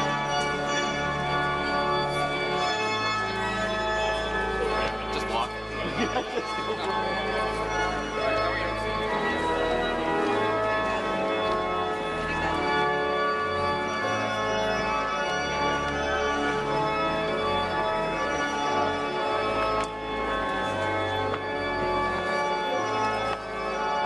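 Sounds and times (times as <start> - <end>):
church organ playing chords: 0.0 - 24.0.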